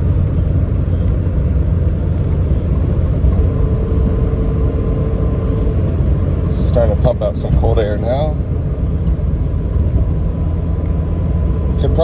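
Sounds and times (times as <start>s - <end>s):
car engine and road rumble: 0.0s - 12.0s
faint steady whine: 0.0s - 12.0s.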